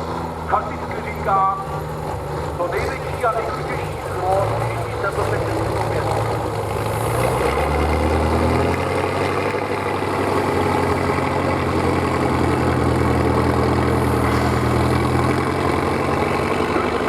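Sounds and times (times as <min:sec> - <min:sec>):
heavy truck engine running: 0:00.0 - 0:17.0.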